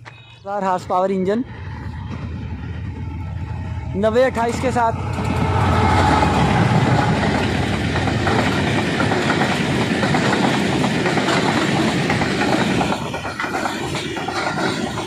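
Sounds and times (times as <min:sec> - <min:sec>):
train wheels rumbling on rail: 0:01.1 - 0:15.0
clickety-clack over rail joints: 0:02.0 - 0:15.0.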